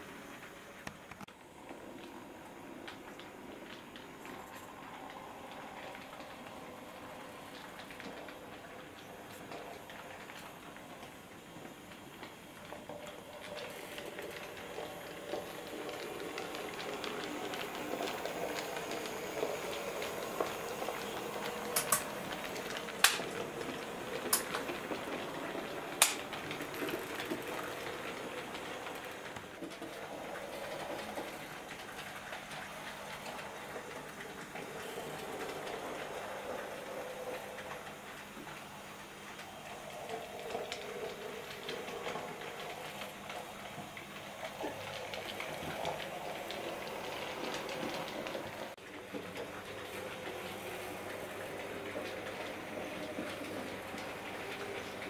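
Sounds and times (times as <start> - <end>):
model train whirring: 0.0 - 55.0
wheels clicking on track: 0.0 - 55.0.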